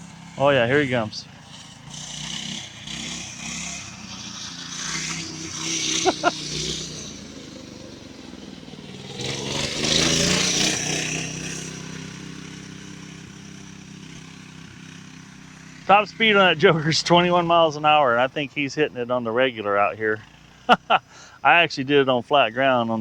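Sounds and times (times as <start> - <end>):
mini bike engine passing: 0.0 - 22.0.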